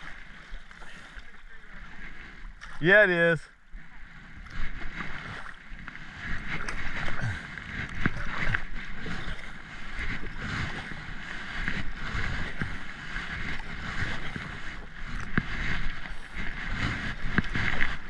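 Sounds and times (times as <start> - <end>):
paddle strokes splashing: 0.0 - 18.0.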